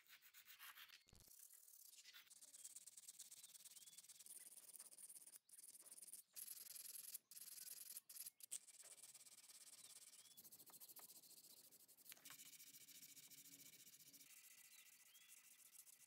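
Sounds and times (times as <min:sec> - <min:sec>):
faint sanding on metal: 0:00.0 - 0:05.4, 0:06.4 - 0:16.0.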